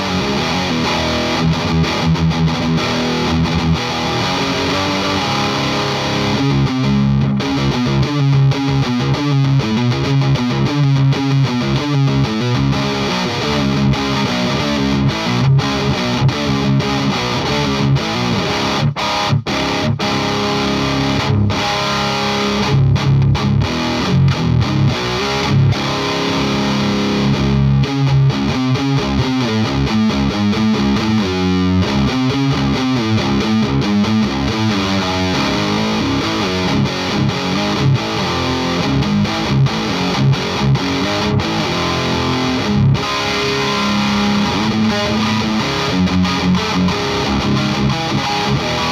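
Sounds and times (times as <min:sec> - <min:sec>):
distorted electric guitar metal riffs: 0:00.0 - 0:48.9.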